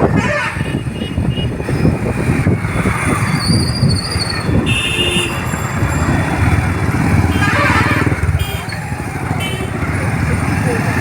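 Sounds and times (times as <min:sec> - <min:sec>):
wind rumble on microphone: 0:00.0 - 0:09.2
motorcycle engine: 0:00.0 - 0:11.0.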